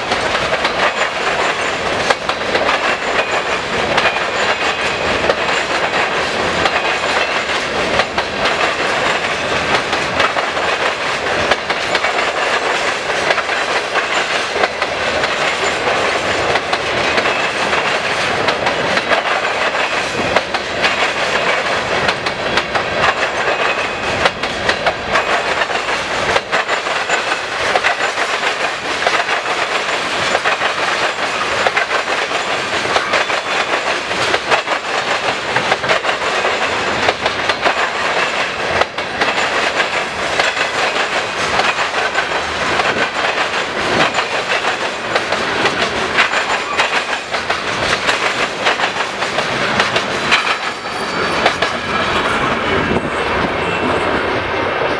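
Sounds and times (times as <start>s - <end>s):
train wheels clickety-clack on rails: 0.0s - 54.9s.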